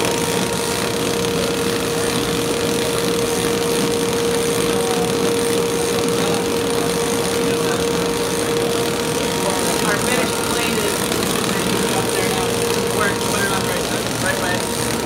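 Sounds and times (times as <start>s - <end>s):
printing press running: 0.0s - 15.0s.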